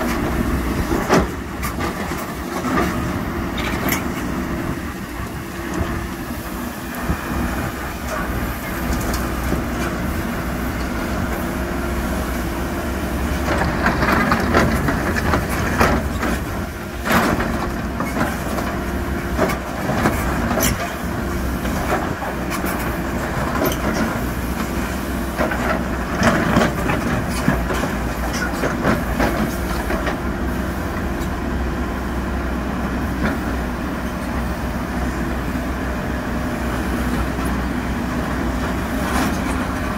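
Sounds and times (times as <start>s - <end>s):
diesel machine engine running: 0.0s - 39.9s.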